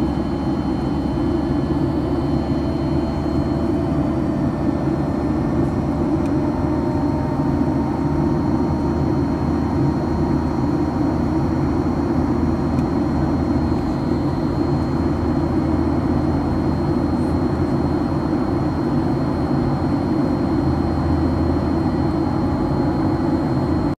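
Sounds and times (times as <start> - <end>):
faint high whine: 0.0 - 23.9
airliner engine drone: 0.0 - 24.0.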